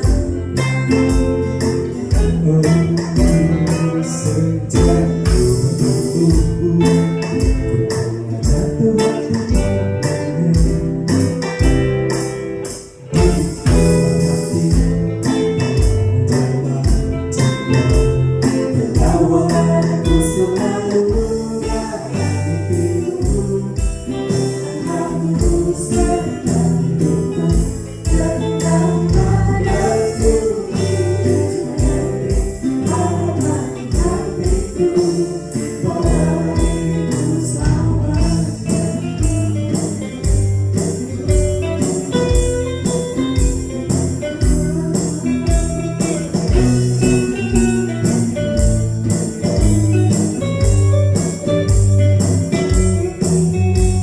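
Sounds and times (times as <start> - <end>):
electric drum beat: 0.0 - 54.0
pop band with singing: 0.0 - 54.0.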